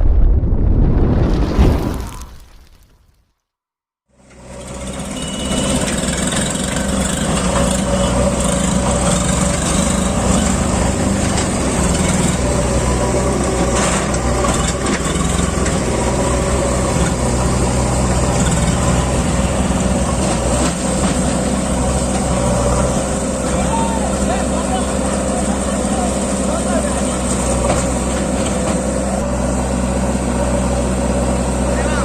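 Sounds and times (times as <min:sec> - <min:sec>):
tractor diesel engine running: 0:04.2 - 0:32.0.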